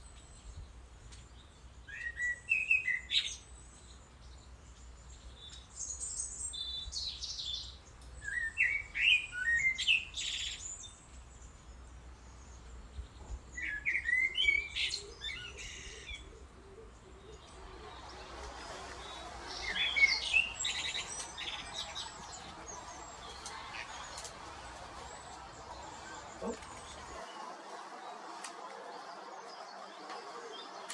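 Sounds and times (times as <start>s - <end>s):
songbird singing: 0.0s - 28.1s.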